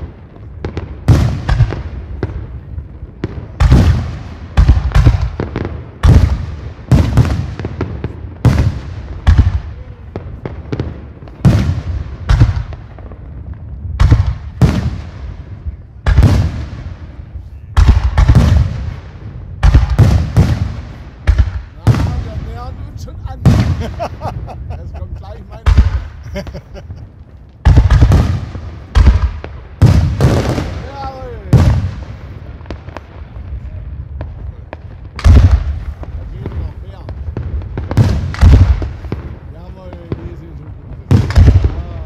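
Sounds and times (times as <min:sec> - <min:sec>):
fireworks bangs with rumbling echo: 0:00.0 - 0:42.0.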